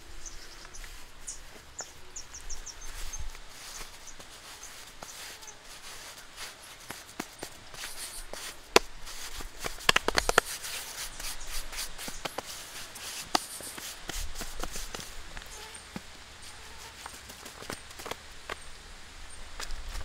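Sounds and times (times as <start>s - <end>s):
hands patting wet mud: 0.6s - 18.6s.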